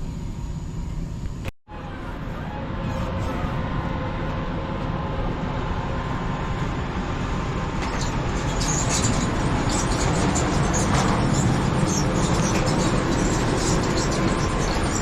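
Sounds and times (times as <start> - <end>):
laser cutting machine rumble: 0.0 - 15.0.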